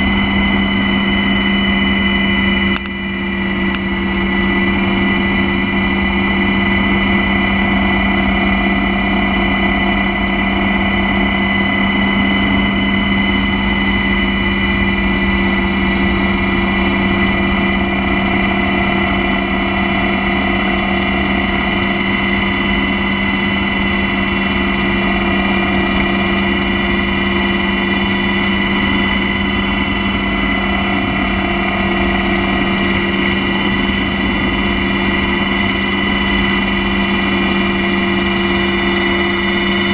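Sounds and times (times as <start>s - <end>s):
aircraft engine whine and rumble: 0.0s - 39.9s.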